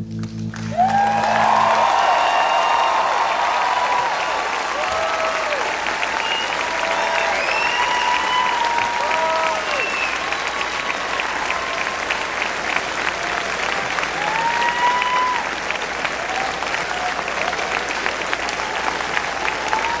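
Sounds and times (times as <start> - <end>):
audience clapping and cheering: 0.0 - 20.0
long whoops: 0.7 - 12.4, 13.1 - 20.0.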